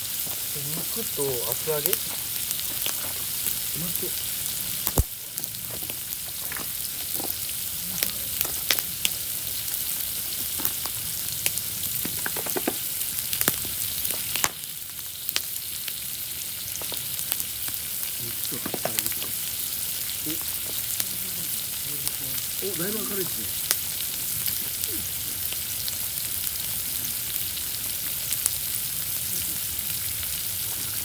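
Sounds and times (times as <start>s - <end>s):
meat and tofu sizzling in oil: 0.0s - 31.0s
oil popping and crackling: 0.0s - 31.0s.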